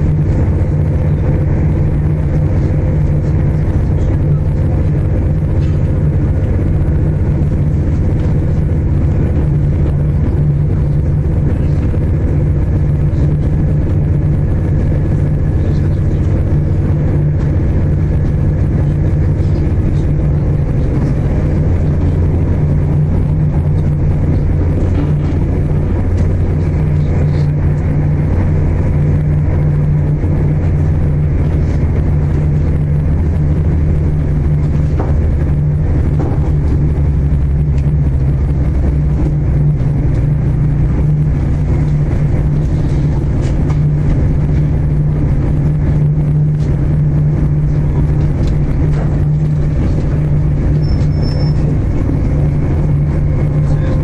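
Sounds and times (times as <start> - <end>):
diesel engine drone: 0.0 - 54.0
train wheels rumbling on rails: 0.0 - 54.0.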